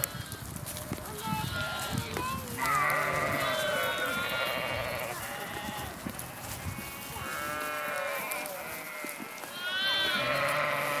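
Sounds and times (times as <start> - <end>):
flock of sheep bleating: 1.2 - 11.0.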